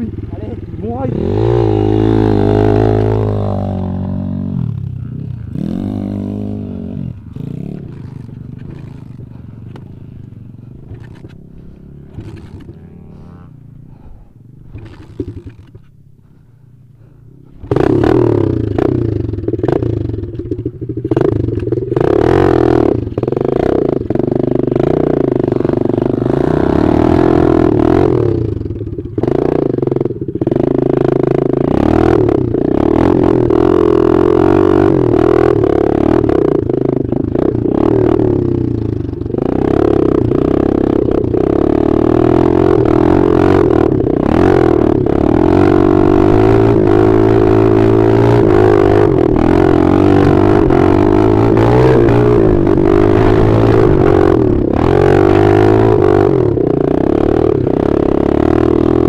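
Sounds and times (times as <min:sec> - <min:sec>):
dirt bike engine close: 0:00.0 - 0:59.0
dirt bike engine pulling away: 0:00.0 - 0:59.0.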